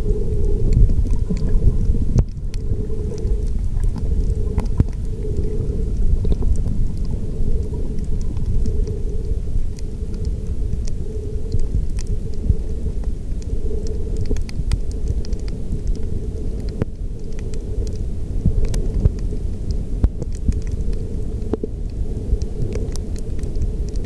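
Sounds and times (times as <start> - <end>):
small clicks and crackles: 0.0 - 24.0
underwater rumble of moving water: 0.0 - 24.0.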